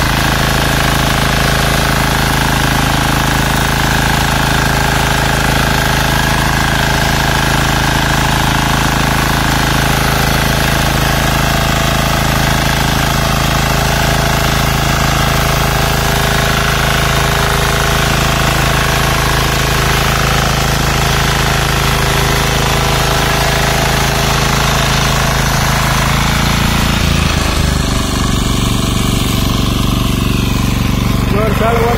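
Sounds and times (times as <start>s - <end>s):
weeder engine running: 0.0s - 31.9s.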